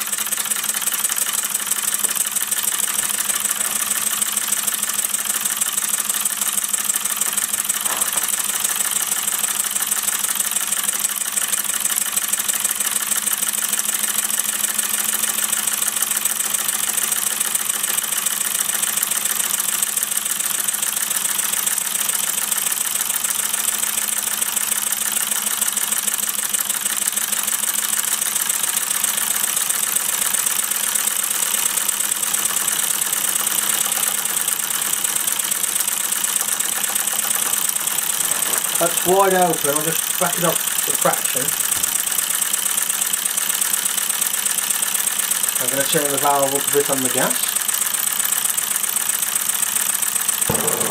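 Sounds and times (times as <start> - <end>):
model steam engine running: 0.0 - 50.9.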